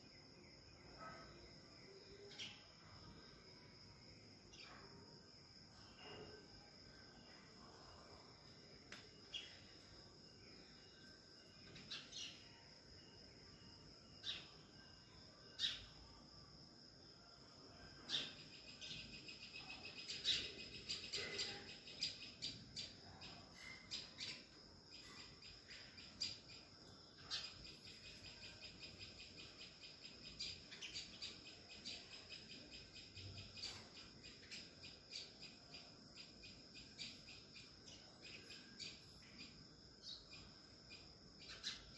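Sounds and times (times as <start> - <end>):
birds and insects chirping: 0.0 - 41.9.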